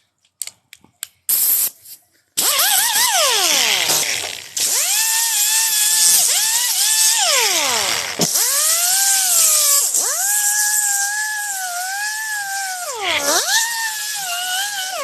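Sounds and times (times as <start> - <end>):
grinder whine: 2.4 - 15.0.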